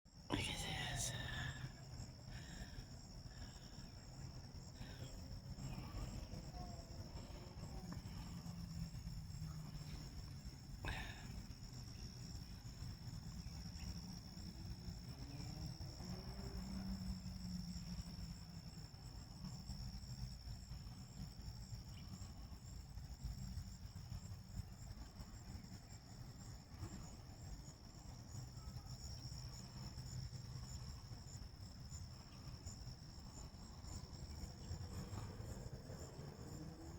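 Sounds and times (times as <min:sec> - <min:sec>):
insects trilling: 0:00.2 - 0:36.9.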